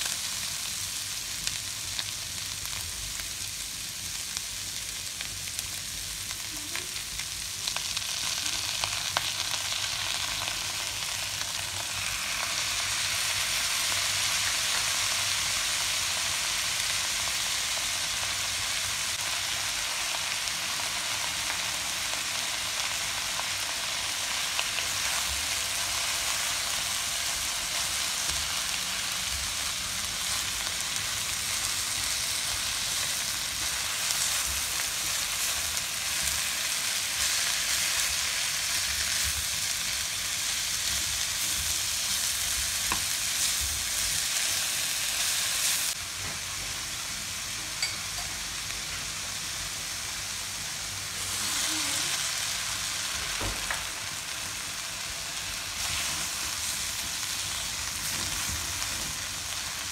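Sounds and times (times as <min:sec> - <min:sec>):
vegetables and chicken sizzling in pan: 0:00.0 - 0:59.9.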